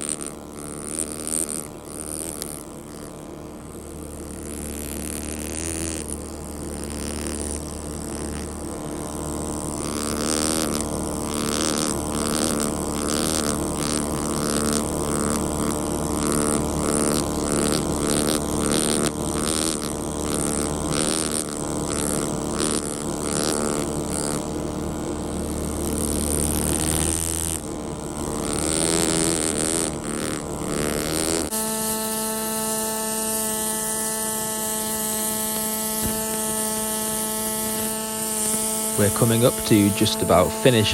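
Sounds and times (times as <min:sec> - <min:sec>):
pneumatic air tool buzzing: 0:00.0 - 0:03.2, 0:03.8 - 0:40.9
steady hum: 0:00.0 - 0:40.9.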